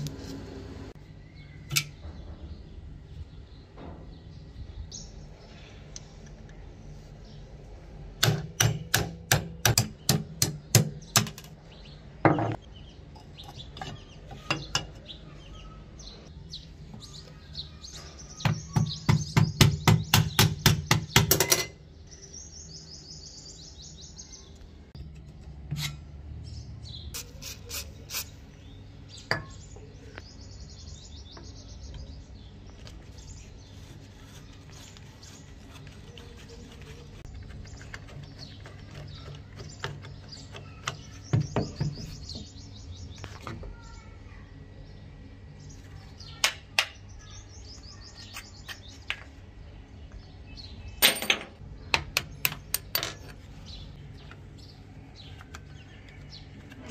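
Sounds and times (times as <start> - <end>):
birds chirping: 1.0 - 56.9.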